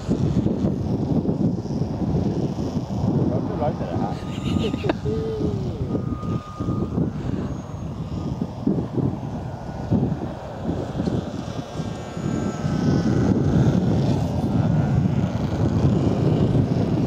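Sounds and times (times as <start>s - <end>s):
model airplane motor and propeller: 0.0s - 17.0s
wind rumble on microphone: 0.0s - 17.0s.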